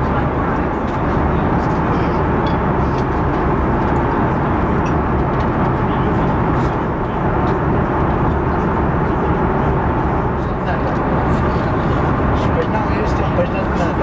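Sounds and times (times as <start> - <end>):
airliner cabin airflow and engine noise: 0.0 - 14.0.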